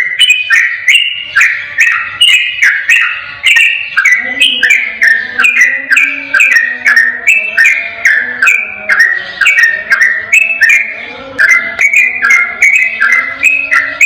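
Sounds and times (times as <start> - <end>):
bird singing rapid whistled song: 0.0 - 14.0.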